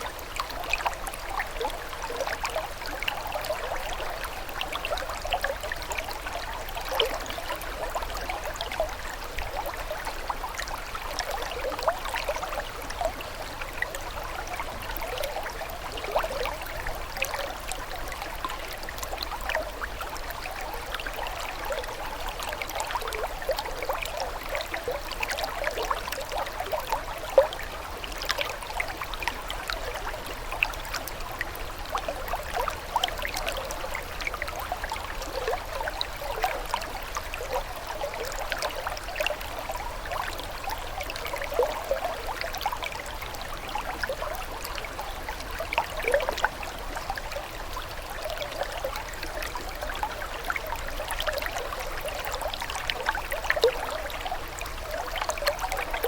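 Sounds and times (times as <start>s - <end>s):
water trickling and bubbling: 0.0s - 56.0s.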